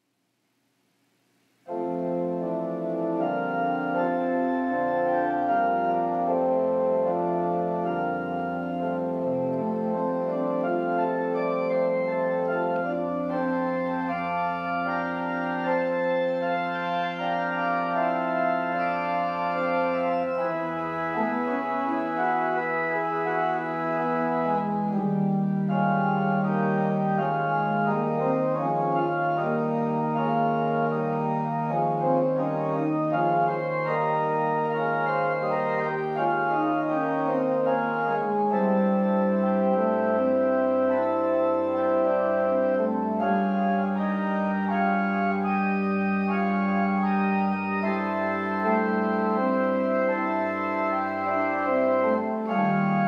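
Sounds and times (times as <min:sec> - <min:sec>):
low organ pedal note: 0:01.7 - 0:53.0
slow sustained organ chords: 0:01.7 - 0:53.0.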